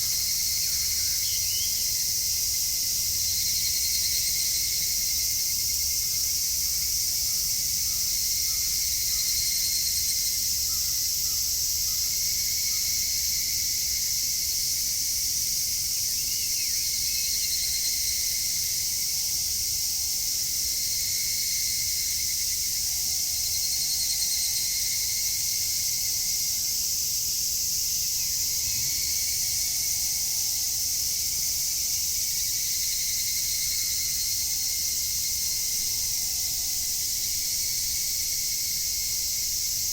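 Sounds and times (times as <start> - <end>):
cicadas and insects shrilling: 0.0 - 39.9
faint insect chirps: 0.0 - 39.9.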